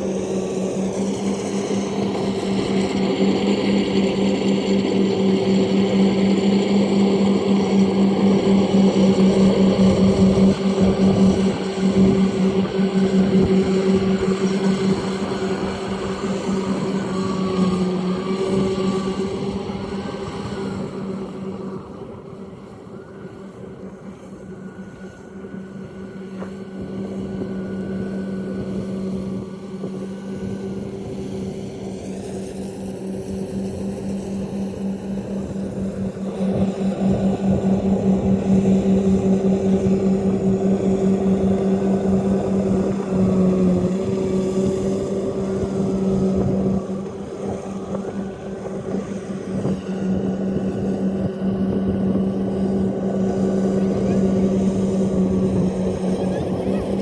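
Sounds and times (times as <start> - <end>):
combine harvester engine humming: 0.0 - 57.0.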